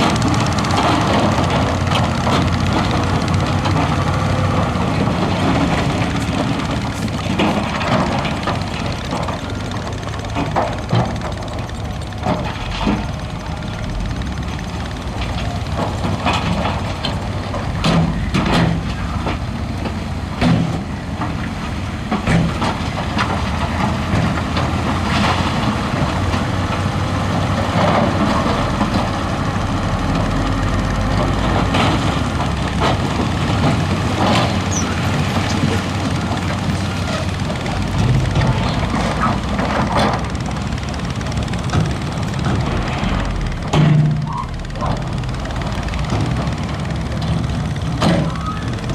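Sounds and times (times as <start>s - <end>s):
diesel engine drone: 0.0s - 48.9s
gravel and rock clanking: 0.0s - 48.9s.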